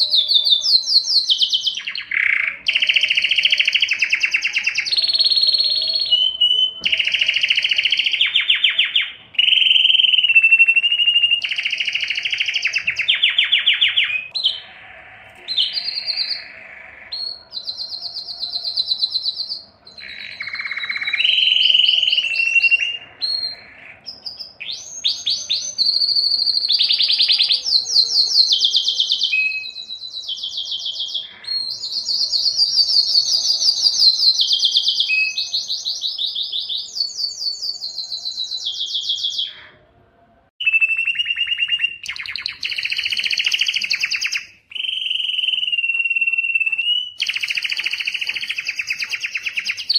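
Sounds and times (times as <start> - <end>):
canary singing trills: 0.0 - 40.0, 40.6 - 49.9.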